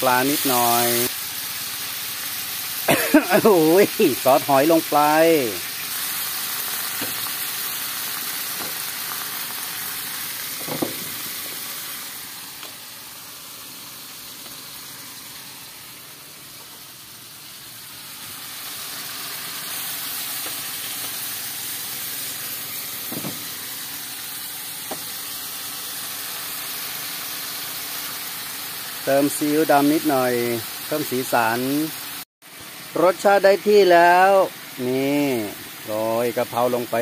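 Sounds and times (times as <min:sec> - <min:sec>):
food sizzling in oil: 0:00.0 - 0:37.0.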